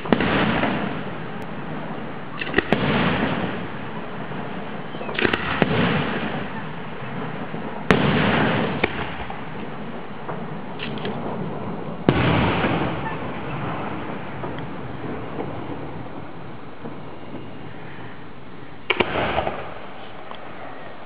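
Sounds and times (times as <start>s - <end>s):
firework shells bursting: 0.0s - 20.9s.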